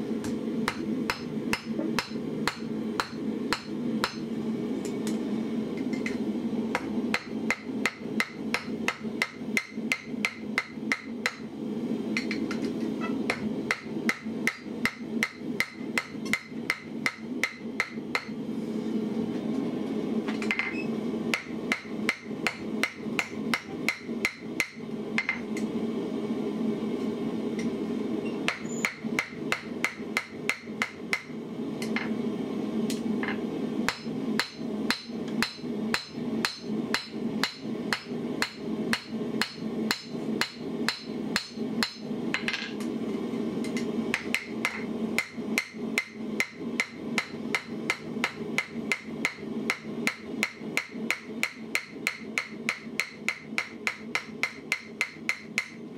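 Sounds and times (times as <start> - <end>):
steady hum: 0.0 - 55.9
hammer striking hot iron: 0.2 - 4.3, 5.8 - 11.5, 12.2 - 18.4, 21.3 - 25.4, 28.5 - 32.1, 32.9 - 42.8, 43.6 - 55.8.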